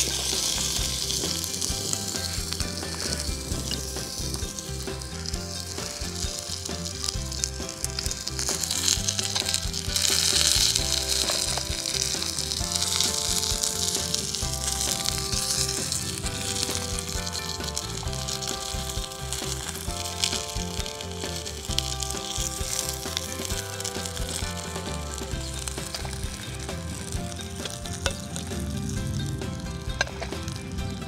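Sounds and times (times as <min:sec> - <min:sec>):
burger patty sizzling in pan: 0:00.0 - 0:31.0.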